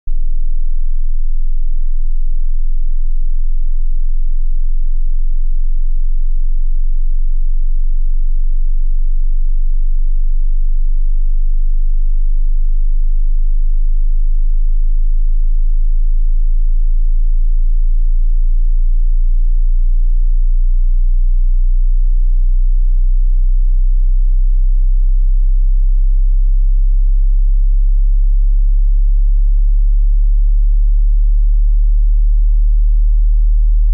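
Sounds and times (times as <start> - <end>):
deep sine tone hum: 0.0 - 33.9.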